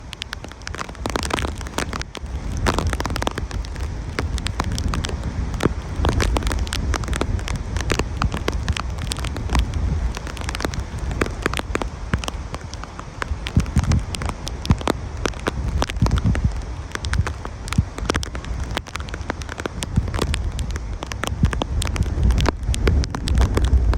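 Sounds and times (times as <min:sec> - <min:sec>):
heavy rain crackling: 0:00.0 - 0:23.9
strong wind gusts: 0:00.0 - 0:23.9.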